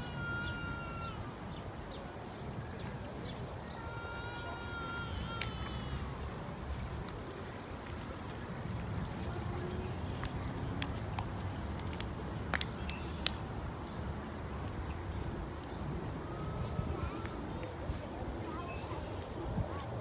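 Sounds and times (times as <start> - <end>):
stream trickling over pebbles: 0.1 - 20.0.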